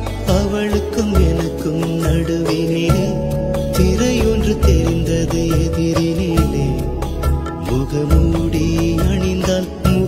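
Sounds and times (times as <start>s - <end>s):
instrumental film song music: 0.0s - 10.0s.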